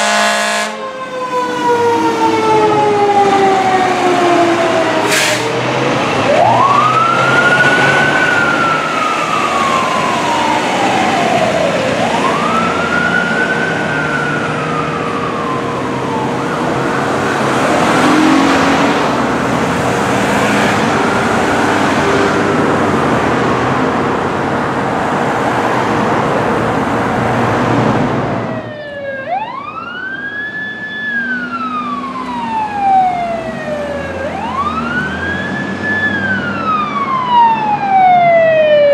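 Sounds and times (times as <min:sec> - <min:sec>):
engine and road noise: 0:00.0 - 0:38.9
fire engine siren wailing: 0:00.0 - 0:38.9.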